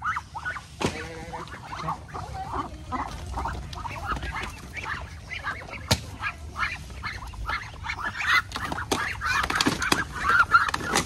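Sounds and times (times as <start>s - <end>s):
ducks calling: 0.0s - 11.0s.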